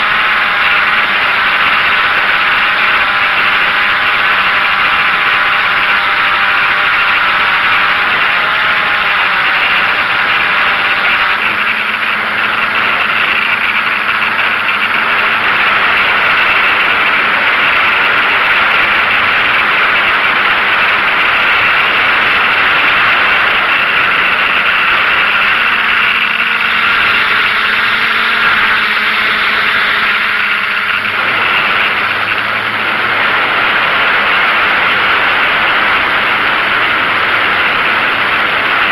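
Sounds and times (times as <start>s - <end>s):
drone motors whirring: 0.0s - 38.9s.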